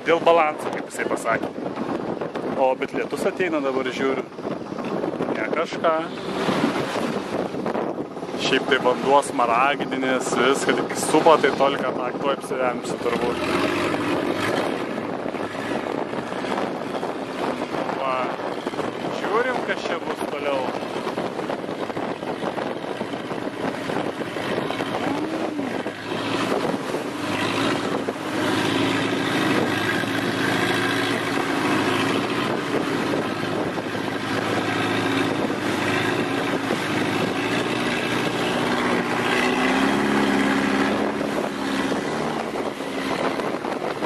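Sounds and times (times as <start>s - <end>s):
boat engine running: 0.0s - 44.0s
water rushing past hull: 0.0s - 44.0s
wind on microphone: 0.0s - 44.0s.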